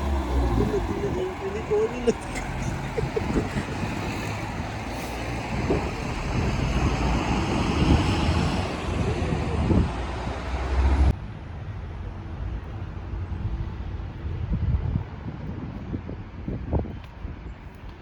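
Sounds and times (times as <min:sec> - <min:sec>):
steady traffic hum: 0:00.0 - 0:18.0
vehicles passing with low rumble: 0:00.0 - 0:18.0.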